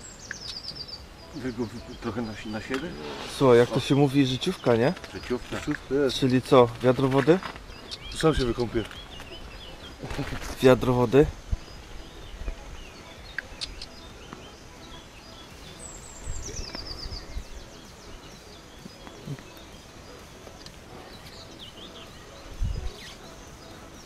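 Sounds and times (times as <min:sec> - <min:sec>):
small birds singing and chirping: 0:00.0 - 0:24.0.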